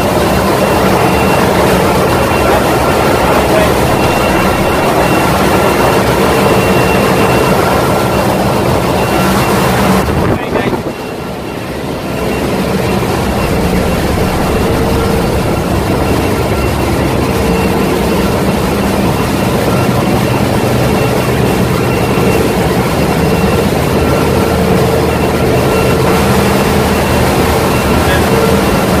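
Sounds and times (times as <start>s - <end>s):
engine room machinery drone: 0.0s - 29.0s.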